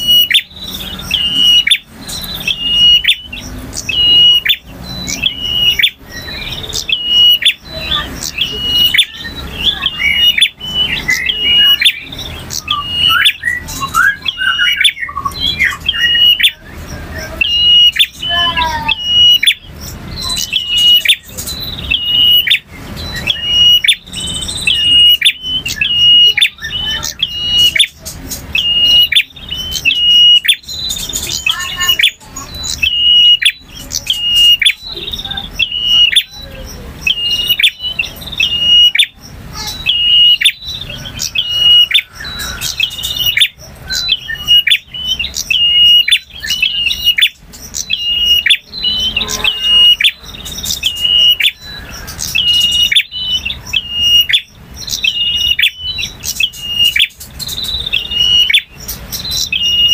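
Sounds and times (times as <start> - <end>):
bird chirping and trilling: 0.0 - 59.9.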